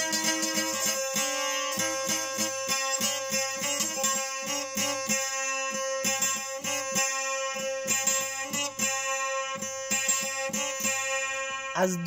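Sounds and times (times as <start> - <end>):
plucked string instrument: 0.0 - 12.0.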